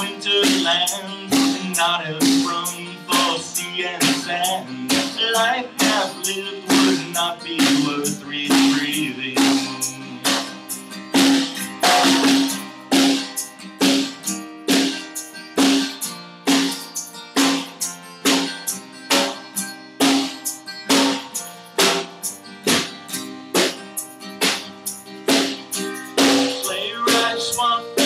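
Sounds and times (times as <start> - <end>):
drum kit steady beat: 0.0 - 28.0
strummed guitar: 0.0 - 28.0.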